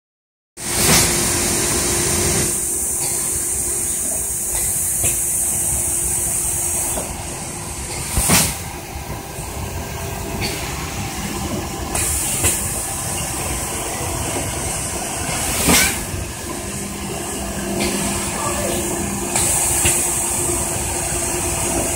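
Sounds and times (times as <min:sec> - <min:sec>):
machine humming: 0:01.2 - 0:21.9.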